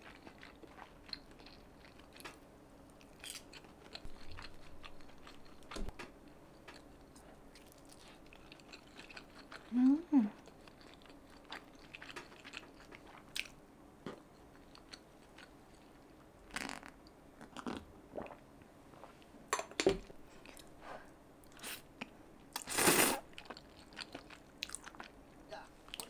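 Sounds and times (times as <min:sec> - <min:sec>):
person crunching and chewing food: 0:00.0 - 0:19.2, 0:21.4 - 0:26.0.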